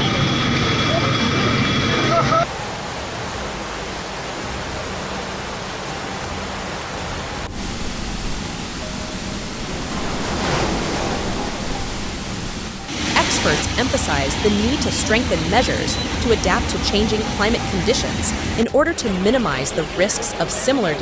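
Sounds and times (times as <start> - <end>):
floodwater roaring: 0.0 - 21.0.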